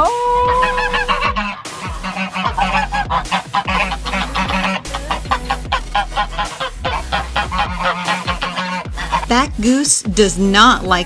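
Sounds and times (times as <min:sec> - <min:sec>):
pop music with steady beat: 0:00.0 - 0:11.0
poultry clucking: 0:00.4 - 0:09.7.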